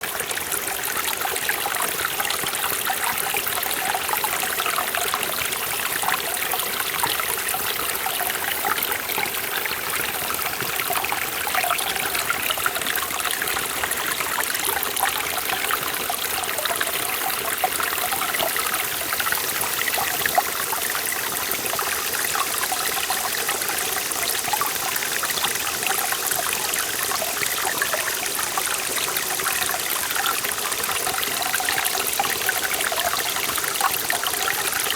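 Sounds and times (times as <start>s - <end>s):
stream splashing over rocks: 0.0s - 34.9s.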